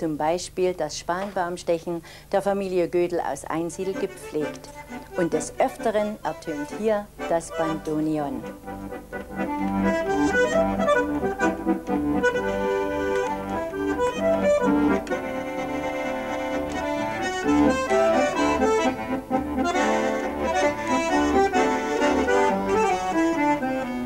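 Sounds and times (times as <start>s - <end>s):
bandoneon playing: 3.5s - 24.0s.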